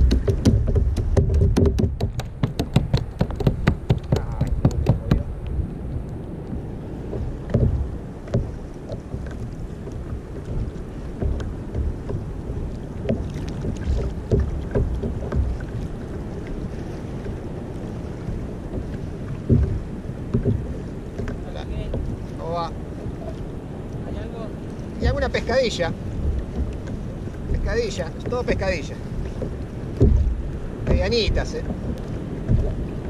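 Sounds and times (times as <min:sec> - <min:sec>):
low thumps: 0:00.0 - 0:16.3, 0:18.2 - 0:22.8, 0:25.0 - 0:33.0
water slapping kayak hull: 0:00.0 - 0:33.0
wind buffeting microphone: 0:00.0 - 0:33.0.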